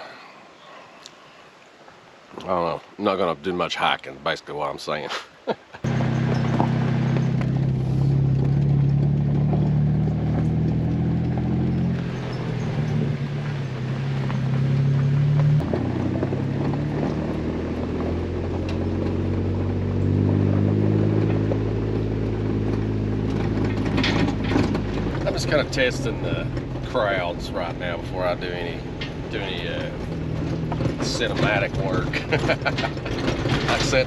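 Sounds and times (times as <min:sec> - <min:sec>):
car engine running while driving: 0:05.8 - 0:34.0.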